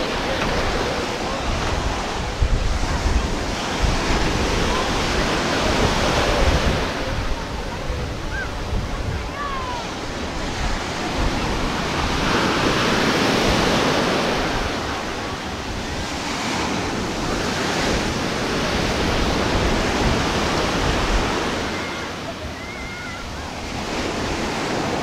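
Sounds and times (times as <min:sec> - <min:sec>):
ocean surf breaking on sand: 0:00.0 - 0:25.0.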